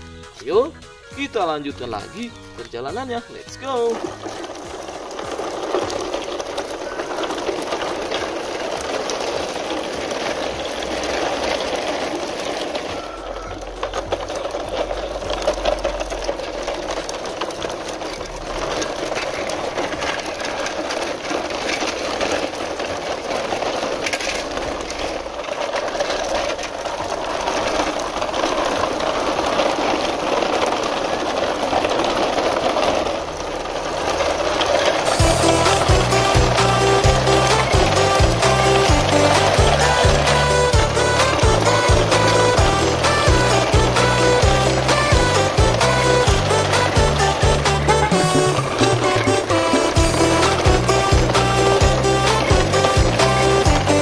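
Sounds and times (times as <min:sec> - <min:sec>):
plastic wheels rolling over dirt: 0:00.0 - 0:54.0.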